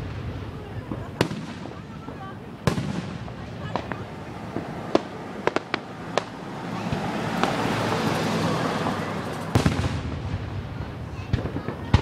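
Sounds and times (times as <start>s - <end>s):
firework pops: 0.0s - 7.7s, 9.4s - 12.0s
firework bang: 0.0s - 12.0s
firework rushing noise: 0.0s - 12.0s.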